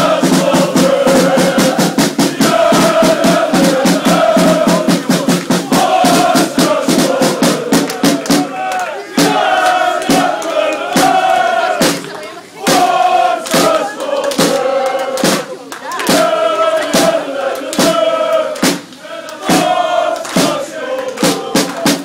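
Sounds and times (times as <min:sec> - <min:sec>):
crowd chanting in unison: 0:00.0 - 0:22.0
sharp rhythmic hits: 0:00.0 - 0:22.0.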